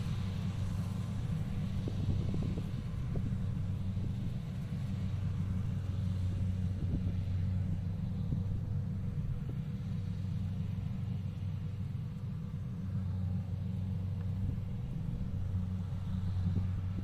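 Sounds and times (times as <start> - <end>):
distant diesel engine drone: 0.0 - 17.0
faint steady whine: 0.0 - 17.0.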